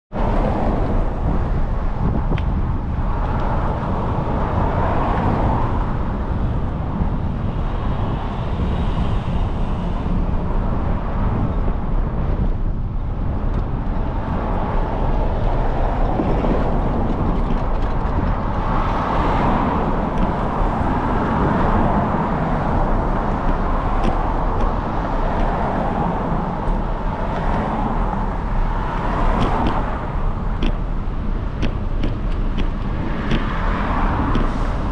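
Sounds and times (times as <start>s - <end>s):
cars passing: 0.1s - 34.9s
steady low traffic rumble: 0.1s - 34.9s.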